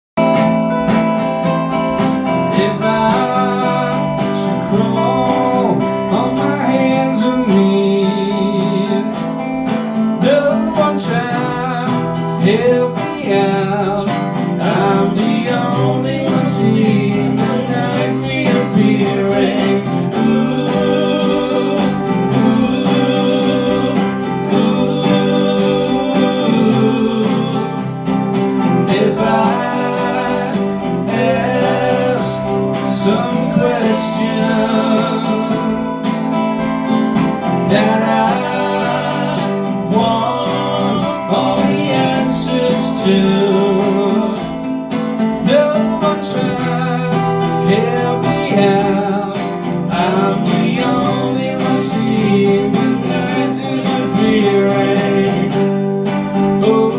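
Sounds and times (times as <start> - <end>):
instrumental guitar band music: 0.1 - 56.9.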